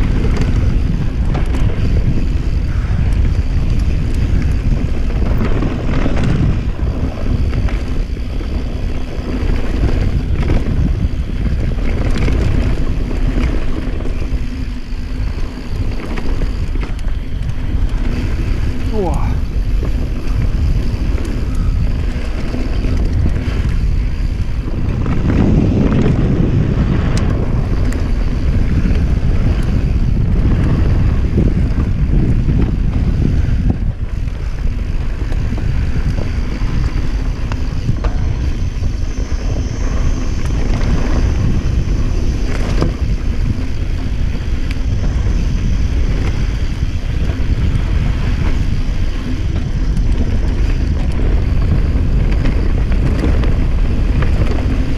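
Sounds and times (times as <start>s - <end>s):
bike clicking and rattling: 0.0s - 54.9s
tyres rolling on dirt: 0.0s - 54.9s
wind buffeting microphone: 0.0s - 54.9s.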